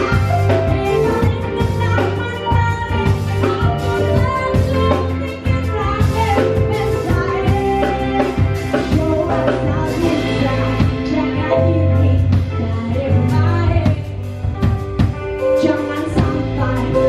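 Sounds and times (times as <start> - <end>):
band playing: 0.0 - 17.0
drums: 0.0 - 17.0
woman singing: 0.0 - 17.0.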